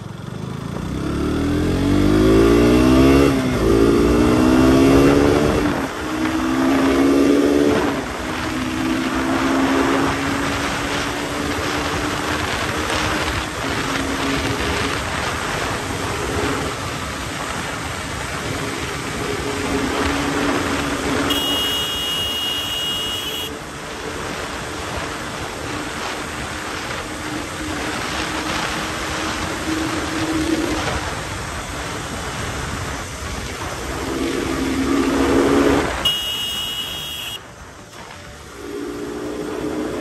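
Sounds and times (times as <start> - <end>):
motorcycle engine cruising: 0.0 - 40.0
wind rush on microphone: 3.0 - 36.2.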